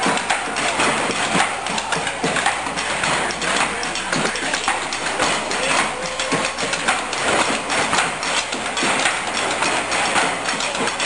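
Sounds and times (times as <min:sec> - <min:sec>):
rhythmic knocking on tables: 0:00.0 - 0:11.0.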